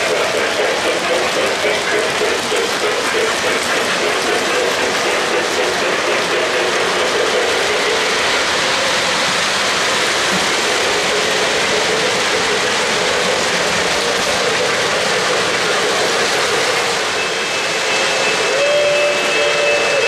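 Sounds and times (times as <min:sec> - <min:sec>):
model train wheels clattering: 0:00.0 - 0:18.4.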